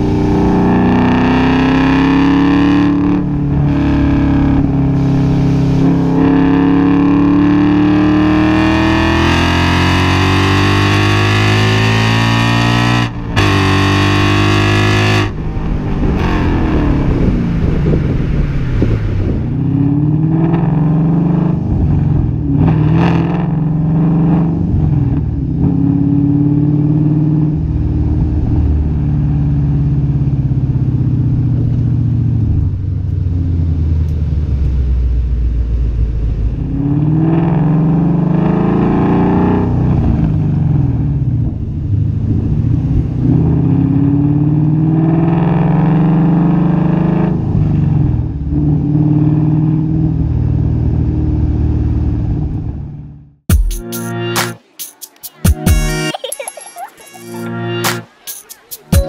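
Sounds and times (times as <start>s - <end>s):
car exhaust accelerating: 0.0s - 53.5s.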